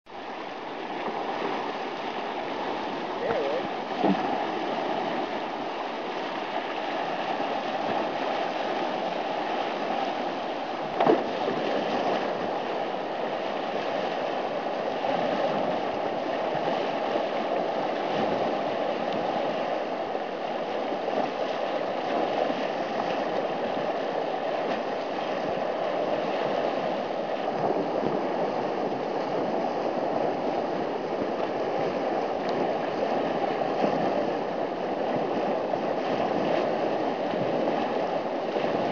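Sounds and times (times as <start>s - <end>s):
whitewater rushing: 0.1s - 38.9s.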